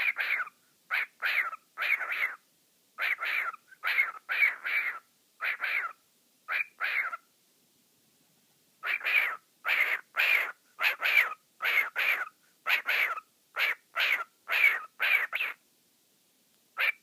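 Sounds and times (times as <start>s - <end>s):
cockatiel scratchy calls: 0.0s - 2.4s, 3.0s - 7.2s, 8.8s - 15.6s, 16.8s - 17.0s.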